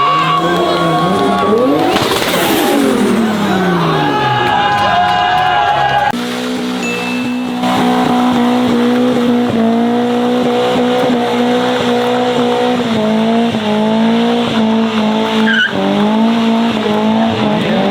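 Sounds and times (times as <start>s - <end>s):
car engine revving high: 0.0s - 17.9s.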